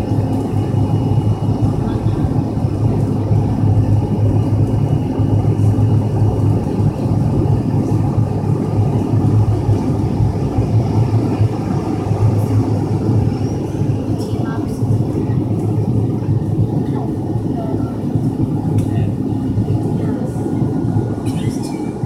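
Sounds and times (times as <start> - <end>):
jet airliner cabin rumble: 0.0 - 22.0.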